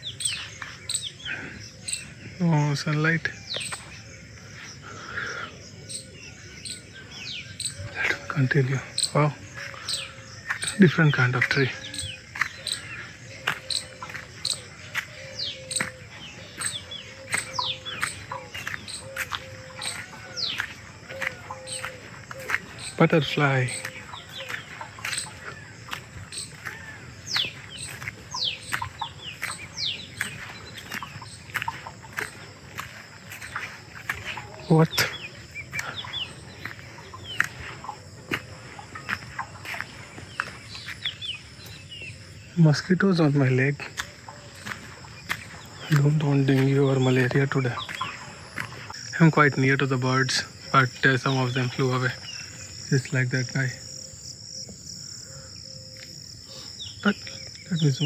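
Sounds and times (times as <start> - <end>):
birds chirping and whistling: 0.0 - 58.0
insects droning: 0.0 - 58.0.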